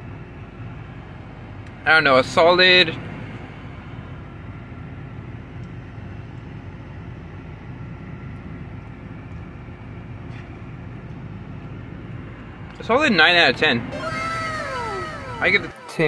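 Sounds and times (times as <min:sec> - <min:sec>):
car cabin rumble and hum: 0:00.0 - 0:16.0.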